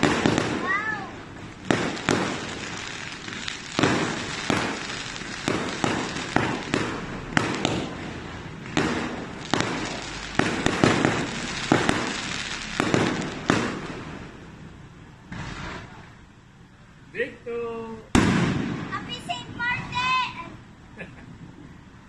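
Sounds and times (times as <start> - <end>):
fireworks bangs: 0.0 - 16.6, 18.0 - 21.7
rumble of fireworks: 0.0 - 22.0.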